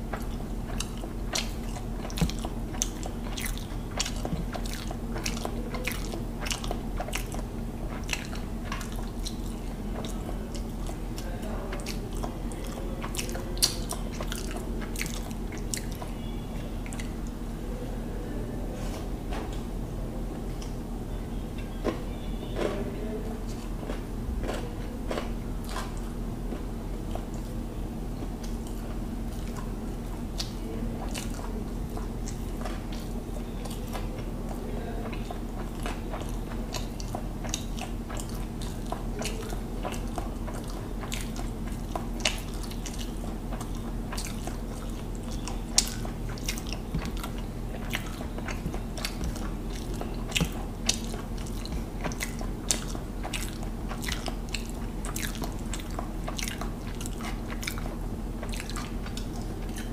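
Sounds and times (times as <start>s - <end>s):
person chewing and eating: 0.0s - 17.9s, 20.3s - 59.9s
steady low hum: 0.0s - 59.9s.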